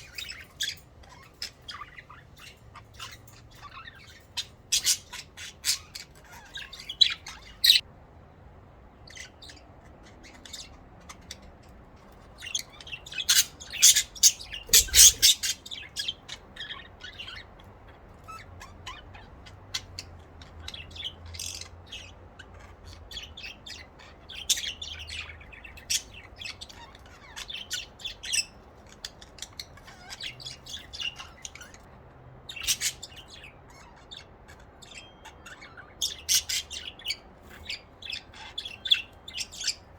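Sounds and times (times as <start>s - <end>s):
budgerigars chirping and chattering: 0.0s - 7.8s, 8.9s - 39.9s.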